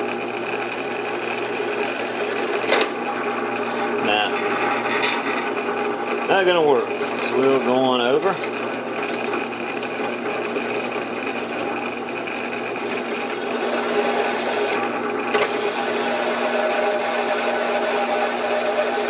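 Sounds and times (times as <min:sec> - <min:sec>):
end mill grinding metal: 0:00.0 - 0:19.0
milling machine whine: 0:00.0 - 0:19.0.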